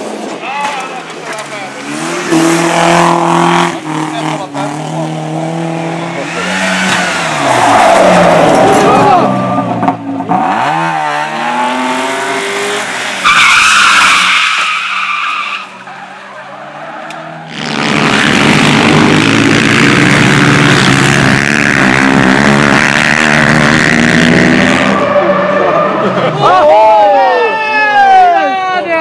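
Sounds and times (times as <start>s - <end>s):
tyre and road noise: 0.0s - 29.0s
car engine revving: 1.3s - 26.4s
loud tyre screech: 1.7s - 28.2s.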